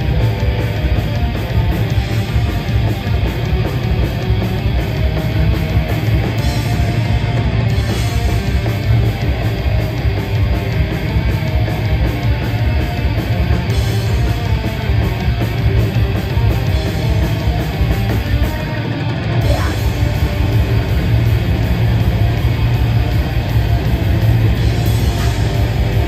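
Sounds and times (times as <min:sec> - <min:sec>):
heavy metal band playing live: 0:00.0 - 0:26.0.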